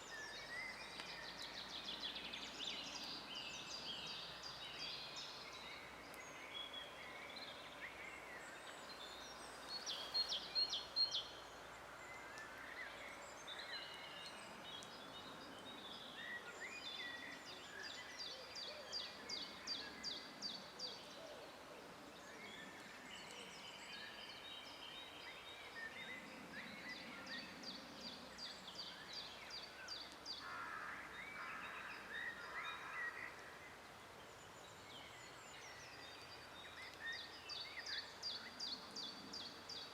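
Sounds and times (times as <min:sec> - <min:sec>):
faint background hiss: 0:00.0 - 0:39.9
forest birds singing: 0:00.0 - 0:39.9.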